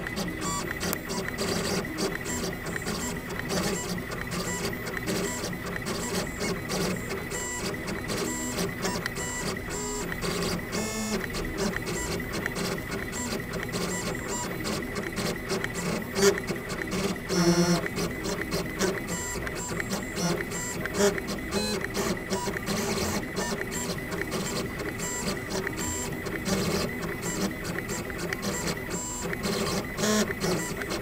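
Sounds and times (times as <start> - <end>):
engraving machine motors whirring: 0.0 - 31.0.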